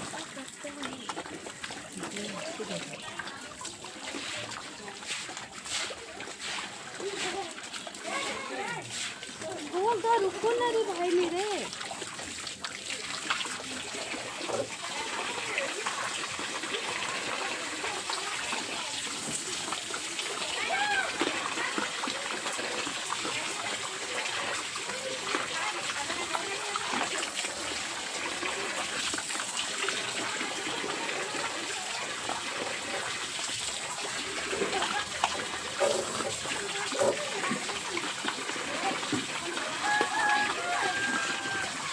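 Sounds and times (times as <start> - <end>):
water running and gushing: 0.0 - 41.9.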